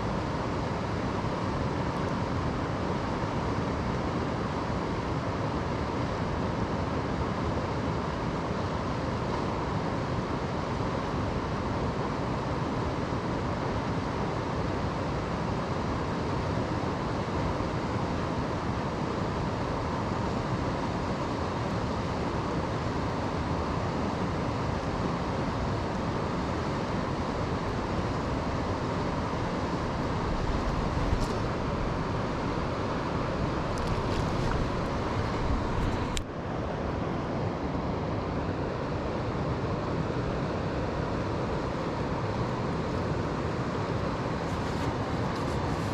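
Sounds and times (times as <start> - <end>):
river water rushing: 9.0 - 45.9.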